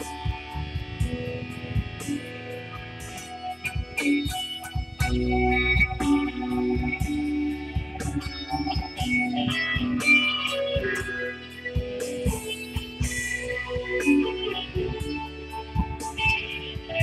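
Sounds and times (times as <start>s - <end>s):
electric guitar lead line: 0.0s - 17.0s
steady bass: 0.0s - 17.0s.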